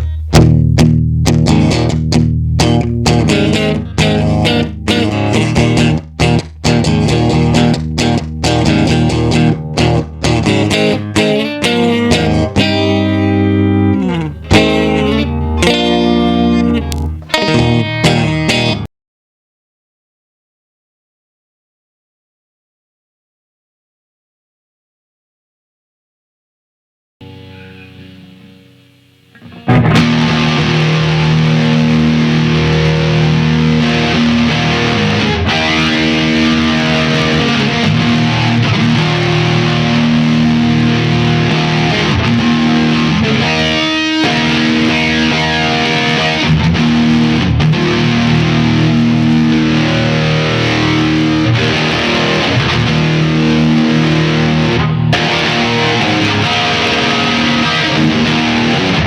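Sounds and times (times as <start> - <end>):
distorted electric guitar: 0.0 - 18.9, 27.2 - 59.0.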